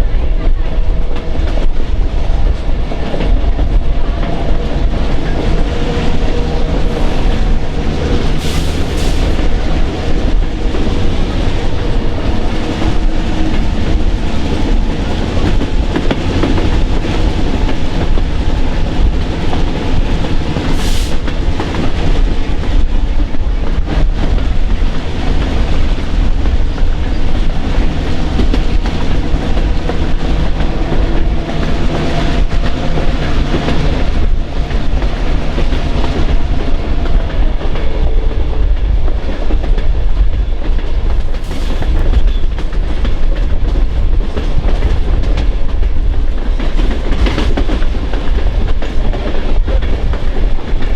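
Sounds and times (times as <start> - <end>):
low train rumble: 0.0 - 50.9
train wheels clicking over rail joints: 0.4 - 50.9.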